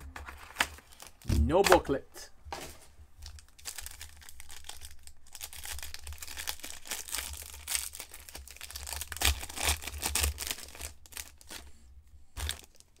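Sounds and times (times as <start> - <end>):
plastic wrapper crinkling and tearing: 0.2 - 1.9, 3.2 - 11.8, 12.4 - 13.0.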